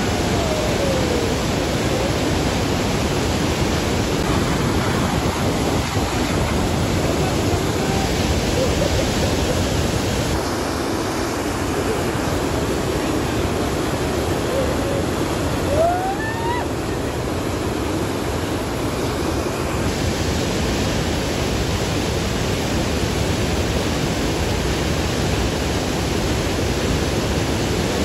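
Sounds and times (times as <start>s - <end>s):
water rushing through rapids: 0.0s - 28.0s.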